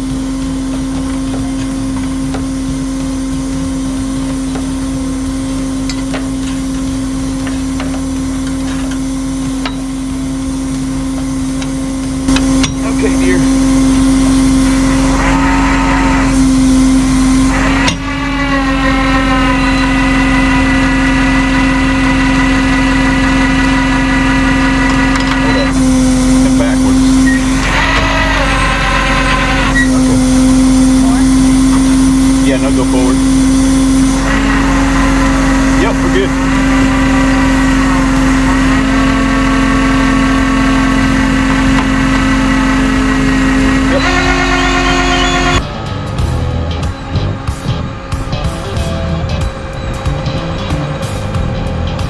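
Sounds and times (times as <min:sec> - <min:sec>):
hydraulic winch whine: 0:00.0 - 0:52.0
truck engine running: 0:00.0 - 0:52.0.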